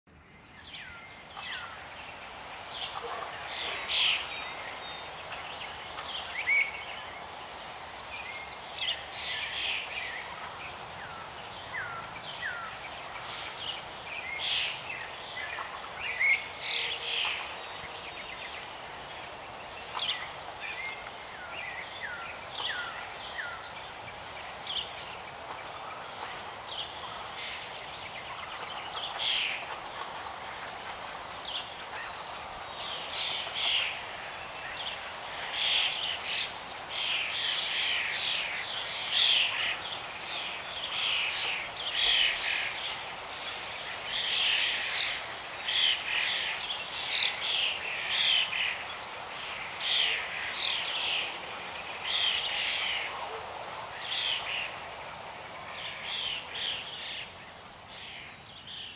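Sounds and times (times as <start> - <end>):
outdoor background hiss: 0.1 - 58.9.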